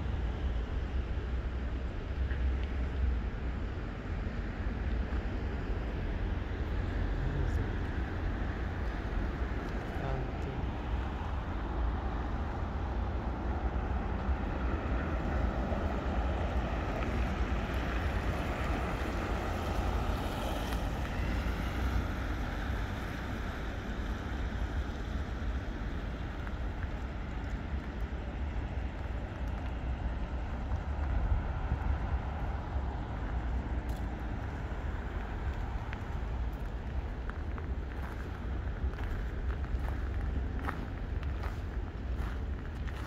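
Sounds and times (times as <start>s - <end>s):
city traffic low rumble: 0.0s - 43.0s.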